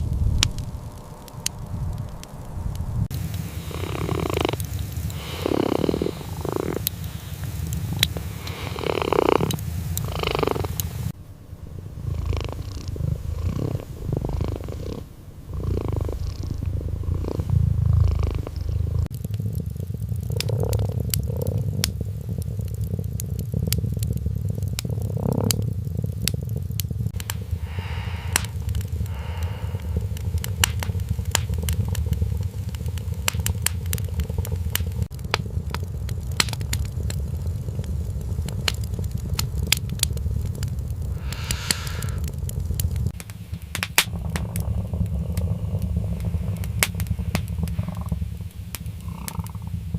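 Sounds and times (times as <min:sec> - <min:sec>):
sharp crackles: 0:00.0 - 0:49.9
kitten purring: 0:03.1 - 0:11.2, 0:11.9 - 0:49.9.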